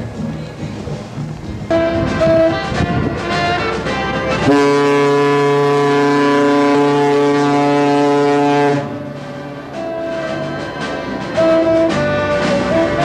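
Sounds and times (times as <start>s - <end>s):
ship's horn blast: 1.7s - 13.0s.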